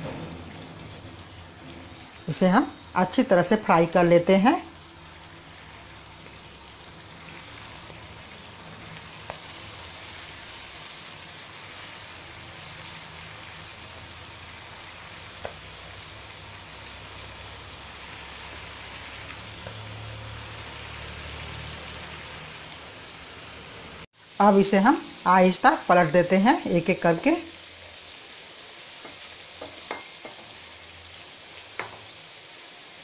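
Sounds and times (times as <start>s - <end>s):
dough sizzling in hot oil: 0.0s - 33.0s.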